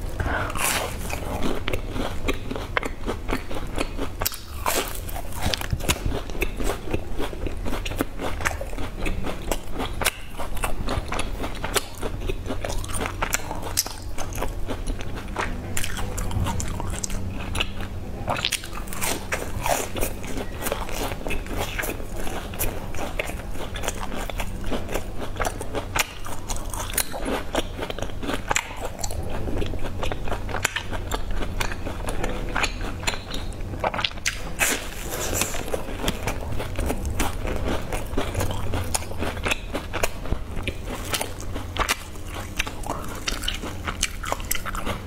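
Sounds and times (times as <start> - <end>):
crunching biscuits: 0.0 - 45.0
person chewing: 0.0 - 45.0.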